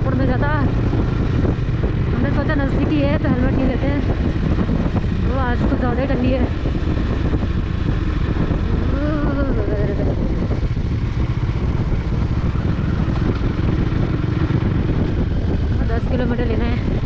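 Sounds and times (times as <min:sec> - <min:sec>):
motorcycle engine: 0:00.0 - 0:17.0
wind rush over microphone: 0:00.0 - 0:17.0.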